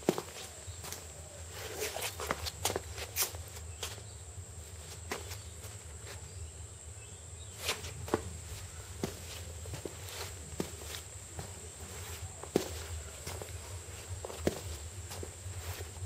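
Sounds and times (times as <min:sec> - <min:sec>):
light footsteps on concrete: 0:00.0 - 0:06.5, 0:07.5 - 0:16.0
steady low hum: 0:00.0 - 0:16.0.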